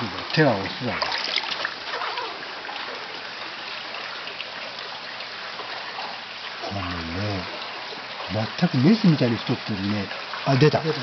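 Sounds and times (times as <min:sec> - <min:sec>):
small water splashes: 0:00.0 - 0:11.0
trickling water: 0:00.0 - 0:11.0.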